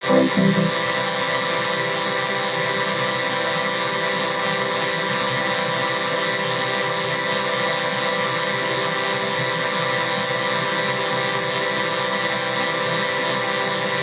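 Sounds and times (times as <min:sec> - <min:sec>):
electronic drone with hiss: 0:00.0 - 0:14.0.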